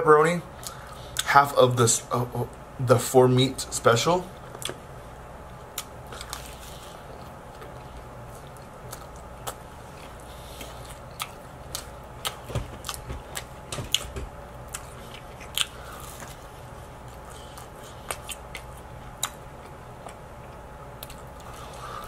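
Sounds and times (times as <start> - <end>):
low steady hum: 0.0 - 22.0
chewing crunchy pizza: 4.3 - 22.0.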